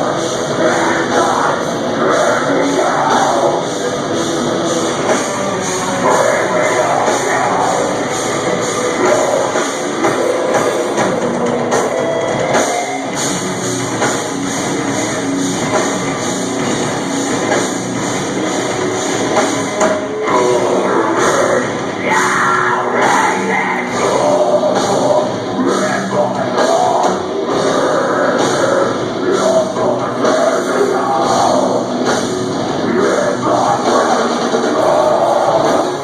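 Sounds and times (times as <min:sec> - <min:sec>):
harsh vocals: 0:00.0 - 0:13.2, 0:18.6 - 0:36.0
distorted guitars: 0:00.0 - 0:36.0
pounding drum kit: 0:00.0 - 0:36.0.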